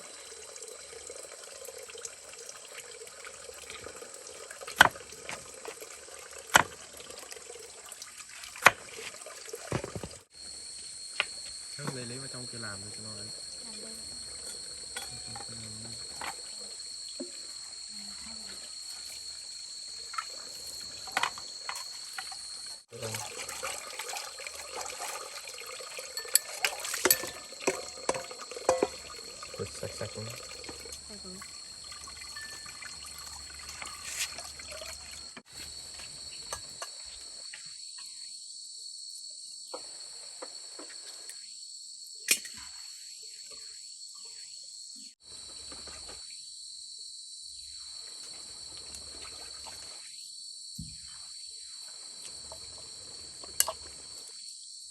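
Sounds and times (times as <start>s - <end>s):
crickets trilling: 0.0s - 54.9s
insects chirring: 0.0s - 54.9s.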